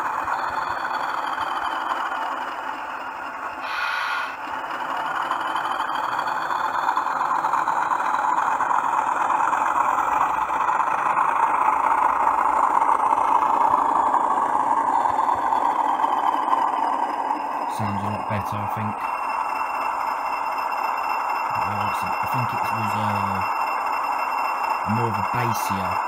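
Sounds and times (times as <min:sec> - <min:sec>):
model locomotive diesel engine sound: 0:00.0 - 0:26.0.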